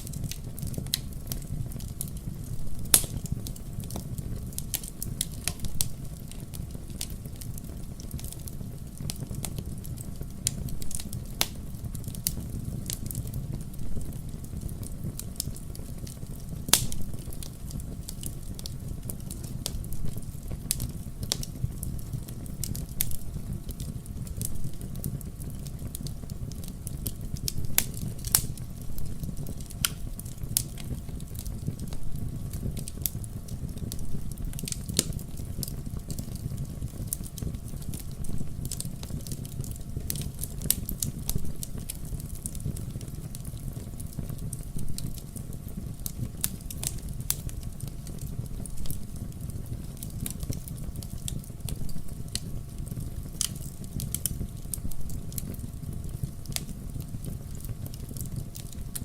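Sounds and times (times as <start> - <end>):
fire crackling and popping: 0.0 - 59.0
fireplace fire rumble: 0.0 - 59.0.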